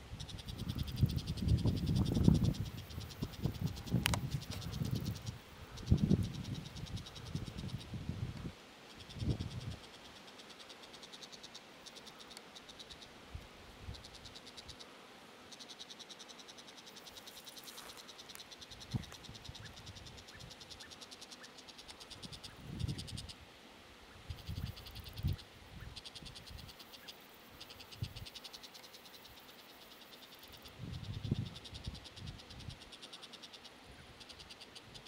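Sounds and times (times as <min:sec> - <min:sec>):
insects chirping: 0:00.1 - 0:23.4, 0:24.2 - 0:35.0.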